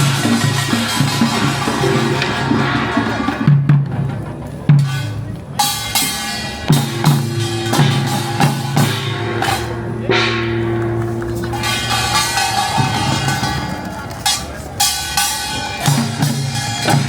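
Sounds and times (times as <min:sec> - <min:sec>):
deep drum strikes: 0:00.0 - 0:17.0.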